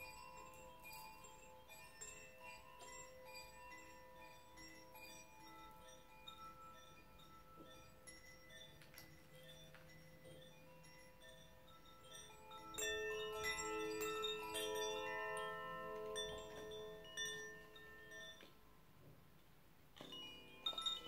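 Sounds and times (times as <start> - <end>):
chime-like ringing tones: 0.0 - 18.8, 20.0 - 21.0.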